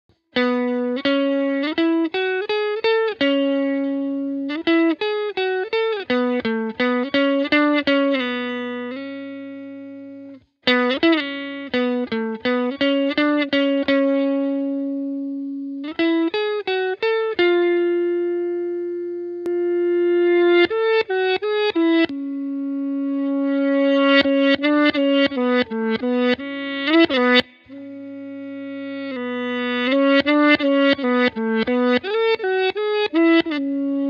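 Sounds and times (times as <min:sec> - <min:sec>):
solo guitar plucking: 0:00.4 - 0:34.0.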